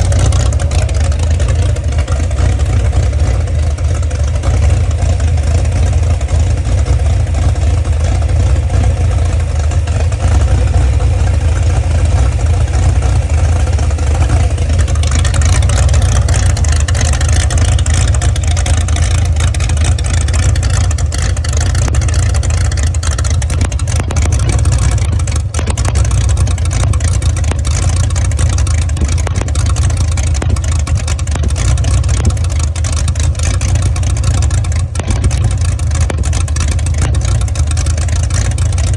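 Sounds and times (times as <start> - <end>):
engine running with deep exhaust note: 0.0 - 38.9.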